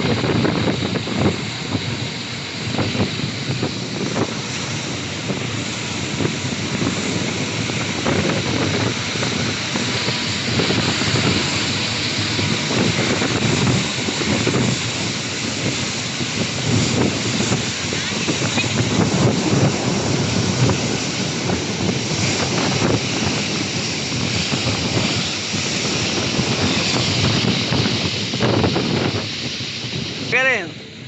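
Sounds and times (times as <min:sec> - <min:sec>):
steady rushing noise: 0:00.0 - 0:31.0
wind buffeting microphone: 0:00.0 - 0:31.0.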